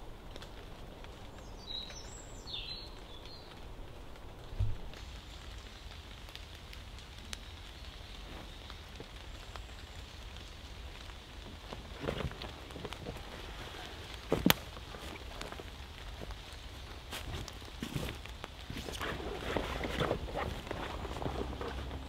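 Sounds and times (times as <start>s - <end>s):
rain falling through trees: 0.0s - 22.0s.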